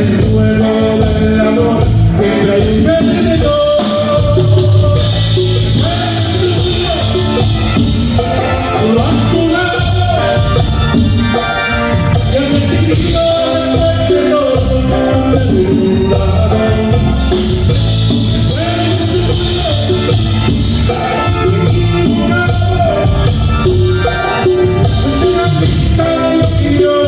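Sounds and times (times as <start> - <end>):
live band playing amplified song: 0.0 - 27.0.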